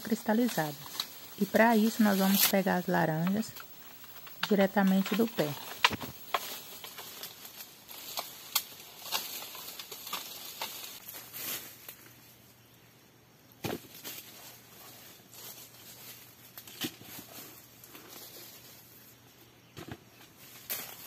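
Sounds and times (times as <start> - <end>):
leaves and twigs crackling: 0.0 - 12.8, 13.6 - 21.0.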